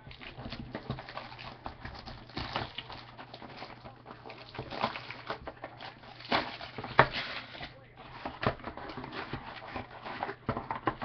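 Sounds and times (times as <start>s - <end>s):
cardboard box rustling: 0.0s - 11.0s.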